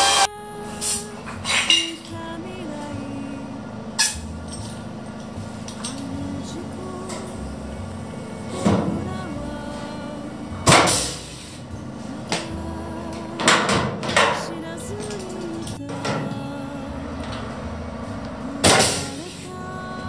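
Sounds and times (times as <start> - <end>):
faint background music: 0.0 - 20.0.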